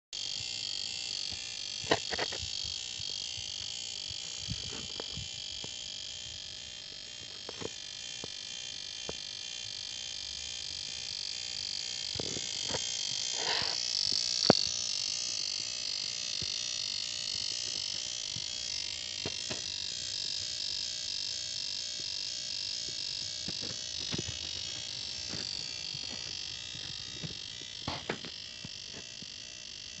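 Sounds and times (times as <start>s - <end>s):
high-pitched buzzing hiss: 0.2s - 30.0s.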